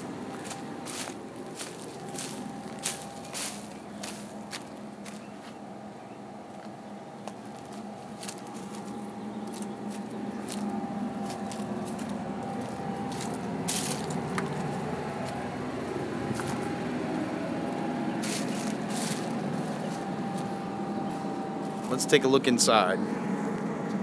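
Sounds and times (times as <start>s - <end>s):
crunching footsteps: 0.0s - 5.7s, 6.5s - 24.0s
generator humming: 0.0s - 24.0s.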